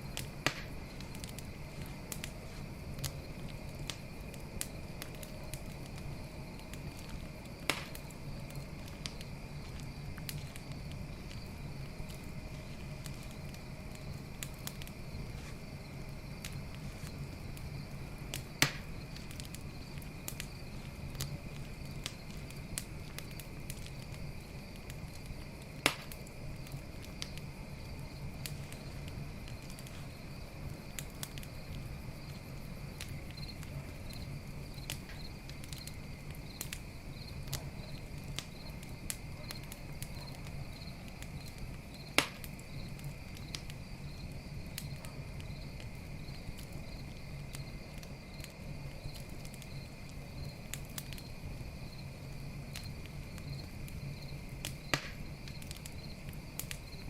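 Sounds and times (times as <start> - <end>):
campfire crackling: 0.0 - 57.0
loud fire pops: 0.0 - 57.0
night insects chirring: 0.0 - 57.0.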